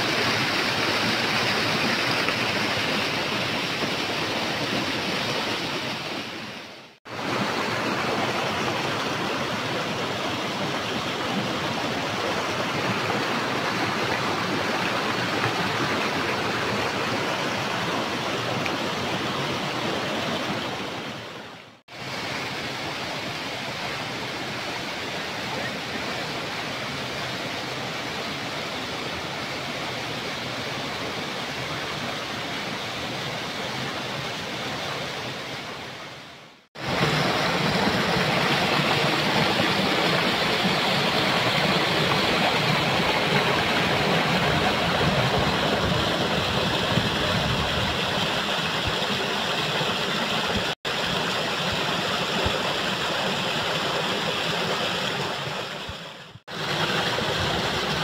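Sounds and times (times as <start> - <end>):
waterfall roaring: 0.0 - 36.2, 36.8 - 58.0.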